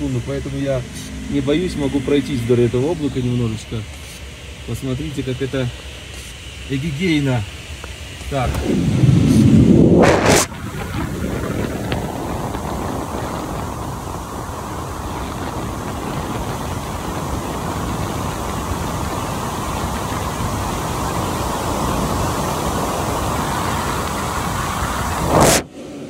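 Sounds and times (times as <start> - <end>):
airflow rushing past cockpit: 0.0 - 26.0.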